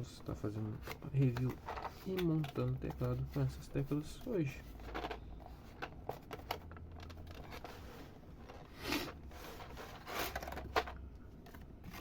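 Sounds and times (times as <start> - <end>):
plastic packing rustling: 0.5 - 12.0.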